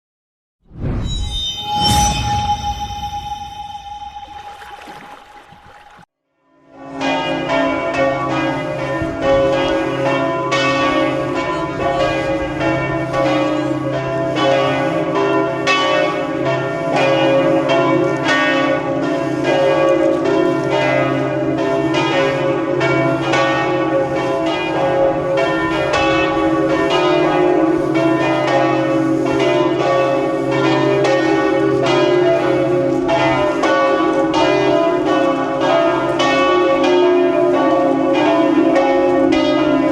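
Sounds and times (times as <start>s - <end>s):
church bells pealing: 6.6s - 39.9s.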